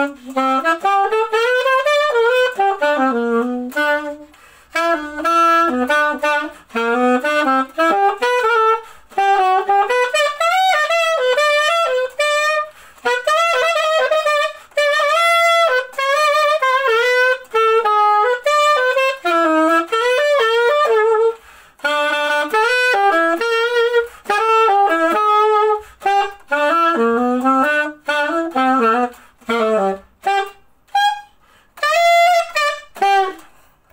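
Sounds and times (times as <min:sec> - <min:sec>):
solo alto saxophone melody: 0:00.0 - 0:33.9.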